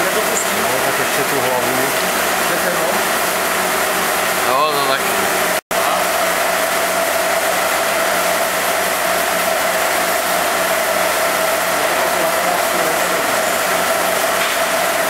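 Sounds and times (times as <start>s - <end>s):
milling machine whirring: 0.0s - 15.0s.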